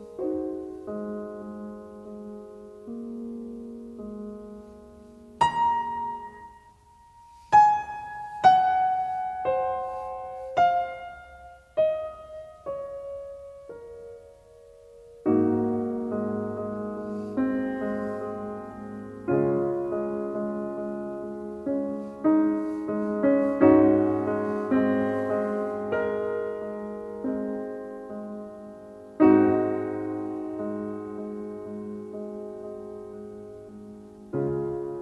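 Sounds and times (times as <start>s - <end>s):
slow solo piano: 0.0s - 35.0s.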